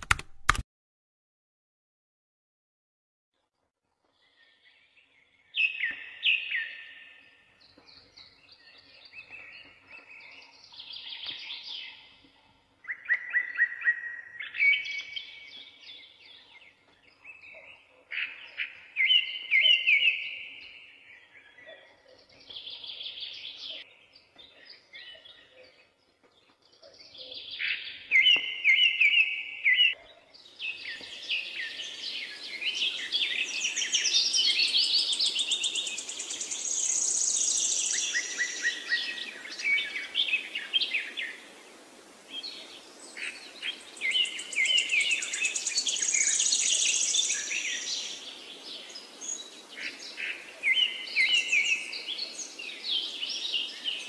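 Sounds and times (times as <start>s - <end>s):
bird singing: 4.1s - 41.6s, 42.3s - 54.0s.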